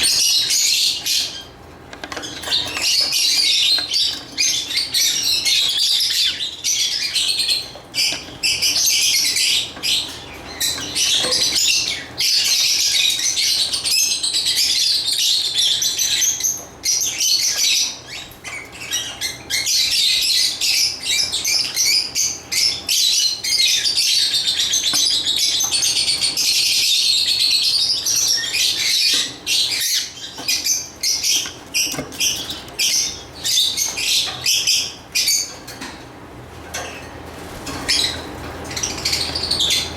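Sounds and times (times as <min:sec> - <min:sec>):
lovebirds chirping: 0:00.0 - 0:35.8, 0:37.6 - 0:39.9.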